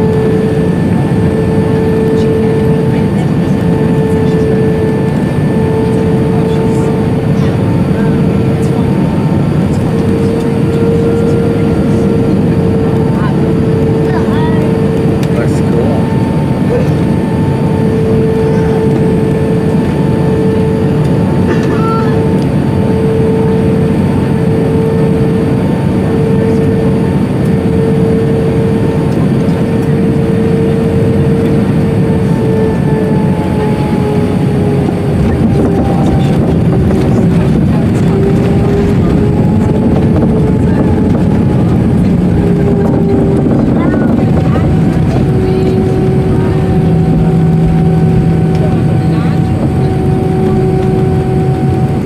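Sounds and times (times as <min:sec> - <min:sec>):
aircraft engine and airflow rush: 0:00.0 - 0:52.0
steady whine: 0:00.0 - 0:52.0.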